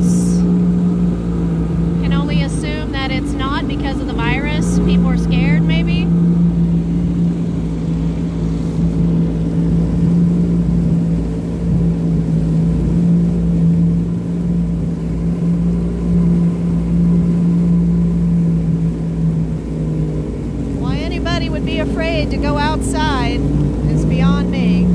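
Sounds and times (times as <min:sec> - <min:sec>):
jet ski engine droning: 0:00.0 - 0:24.9.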